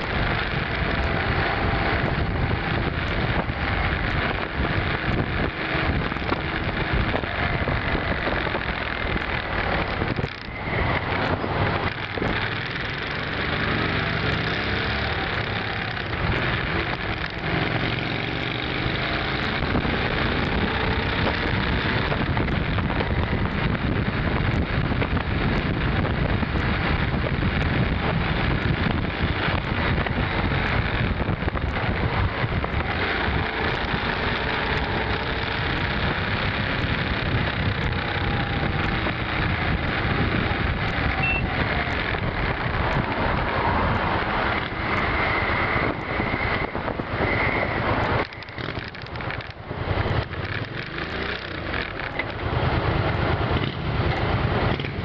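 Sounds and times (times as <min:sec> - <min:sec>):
motorcycle engine at speed: 0:00.0 - 0:55.0
wind rushing over microphone: 0:00.0 - 0:55.0.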